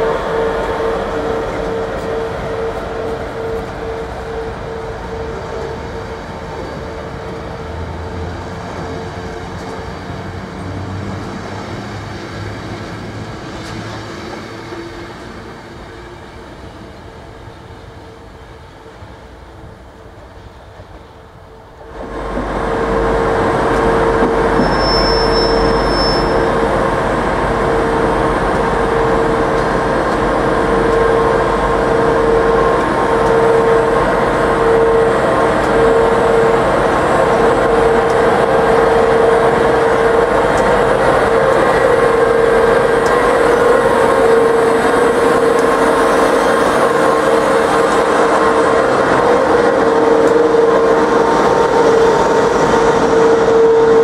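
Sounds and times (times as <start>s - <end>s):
locomotive hum: 0.0s - 54.0s
train wheels rumbling on rail: 0.0s - 54.0s.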